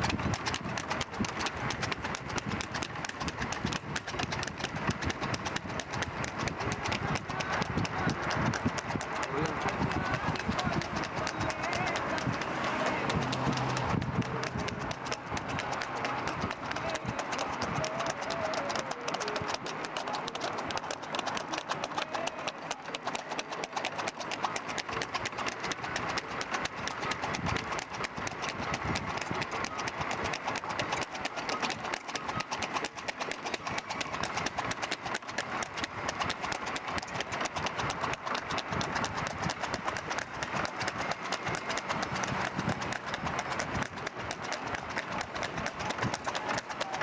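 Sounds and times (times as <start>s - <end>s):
horse hooves clip-clopping on asphalt: 0.0s - 47.0s.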